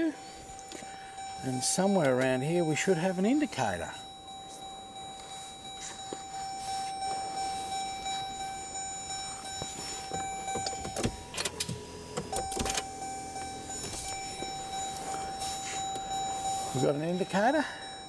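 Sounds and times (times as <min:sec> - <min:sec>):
car warning chime tone: 0:00.0 - 0:18.0.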